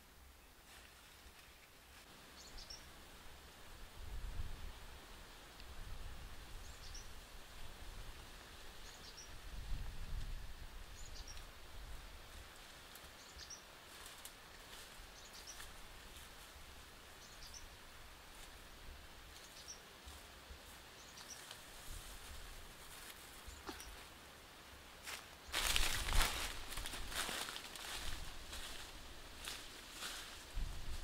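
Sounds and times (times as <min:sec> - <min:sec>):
faint outdoor background noise: 0:00.0 - 0:31.0
grass rustling: 0:00.6 - 0:31.0.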